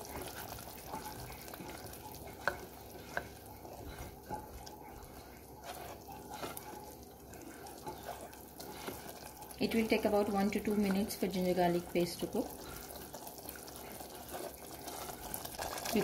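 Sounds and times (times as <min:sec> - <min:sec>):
sizzling in a pot: 0:00.0 - 0:16.0.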